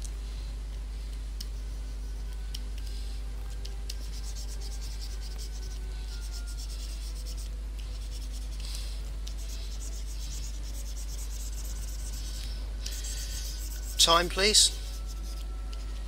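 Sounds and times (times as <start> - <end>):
steady low hum: 0.0 - 16.0
stylus scratching on a tablet: 1.4 - 2.5, 3.8 - 16.0.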